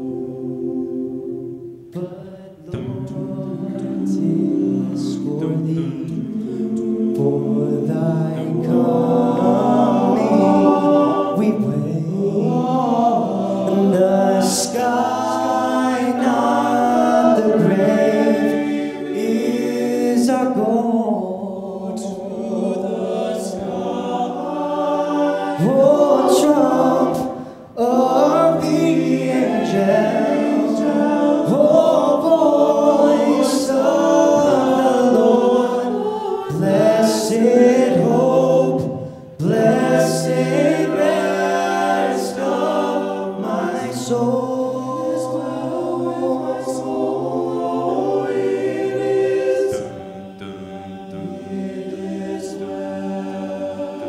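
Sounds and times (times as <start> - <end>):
men's a cappella ensemble singing: 0.0 - 54.0.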